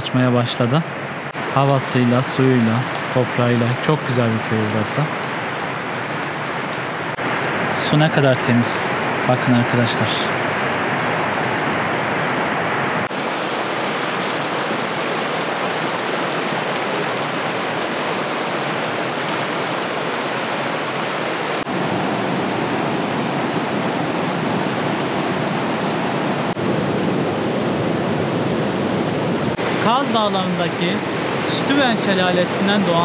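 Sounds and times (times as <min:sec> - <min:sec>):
stream rushing over rocks: 0:01.0 - 0:33.0.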